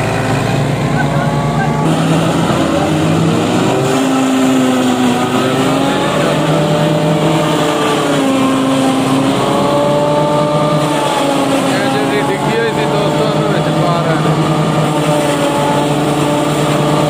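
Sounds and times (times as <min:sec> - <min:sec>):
tractor engine drone: 0:00.0 - 0:17.0
forage harvester chopping maize: 0:01.8 - 0:17.0.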